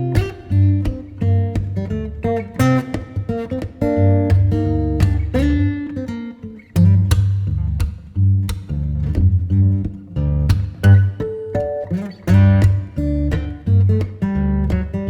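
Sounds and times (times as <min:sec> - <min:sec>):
acoustic guitar music with beat: 0:00.0 - 0:15.0.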